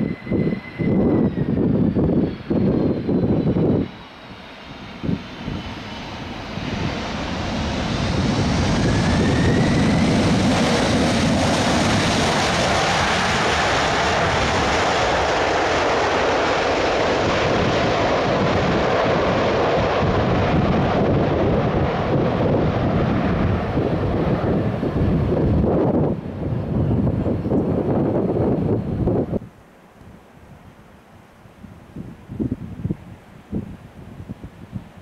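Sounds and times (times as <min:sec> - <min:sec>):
jet engines roaring in reverse thrust: 0:00.0 - 0:29.5.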